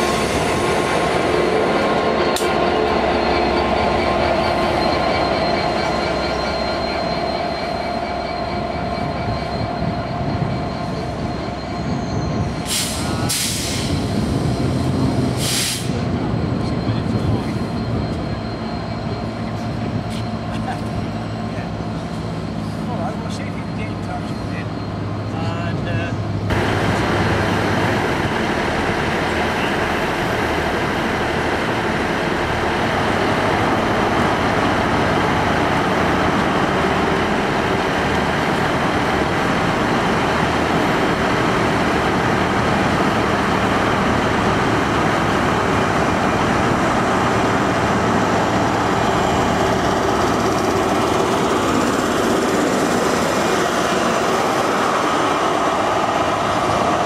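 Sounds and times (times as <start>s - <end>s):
train diesel engine running: 0.0s - 57.0s.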